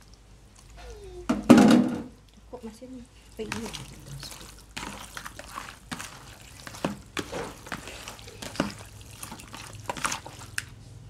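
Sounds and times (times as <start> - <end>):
wet squelches of mixing meat: 0.0 - 1.3, 2.2 - 11.0.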